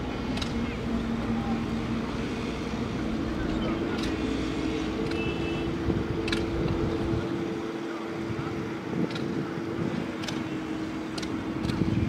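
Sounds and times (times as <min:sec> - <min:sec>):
distant engine droning: 0:00.0 - 0:12.0
low wind rumble: 0:00.0 - 0:12.0.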